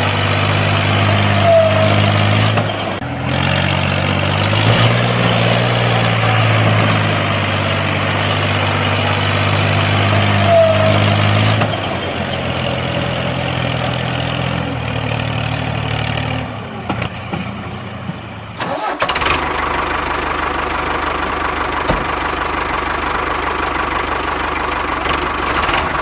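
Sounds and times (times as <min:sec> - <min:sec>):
engine hum with high whine: 0:00.0 - 0:26.0
vehicle engine running: 0:00.0 - 0:26.0.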